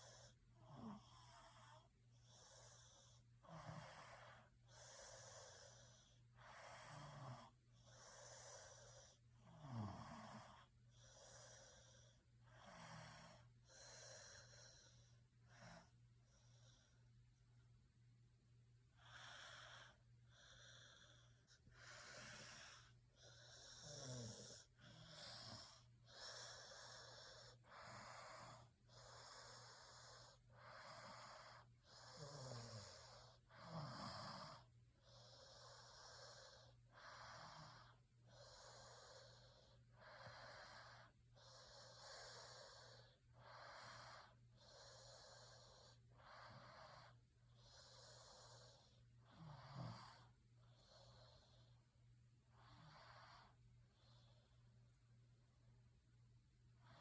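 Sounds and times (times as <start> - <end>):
person snoring faintly: 0.0 - 17.0, 19.0 - 51.7.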